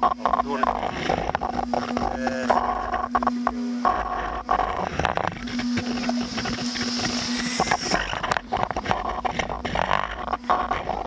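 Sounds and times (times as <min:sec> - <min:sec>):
drone knocks and rattles: 0:00.0 - 0:11.0
drone motors humming: 0:00.0 - 0:11.0.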